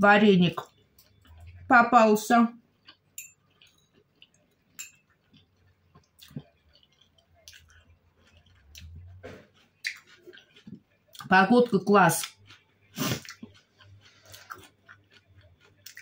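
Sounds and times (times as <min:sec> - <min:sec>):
quiet chewing: 0:00.5 - 0:01.7, 0:02.6 - 0:11.3, 0:12.2 - 0:16.0.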